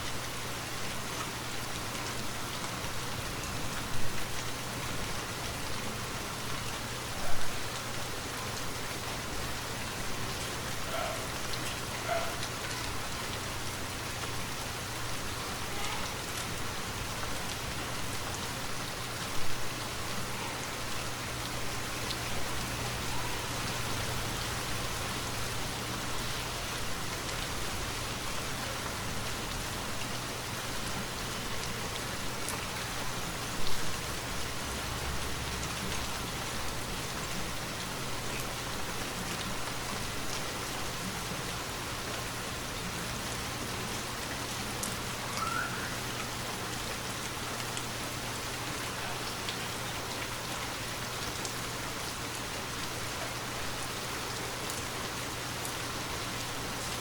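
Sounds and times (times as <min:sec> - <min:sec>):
rainfall patter: 0:00.0 - 0:57.0.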